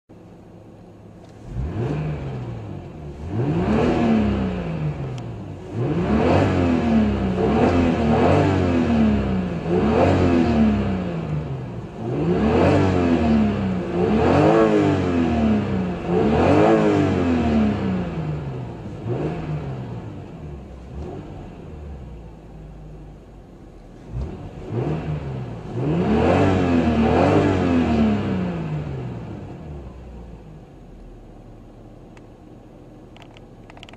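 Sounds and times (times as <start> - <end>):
car engine revving: 1.2 - 31.5, 33.2 - 33.9.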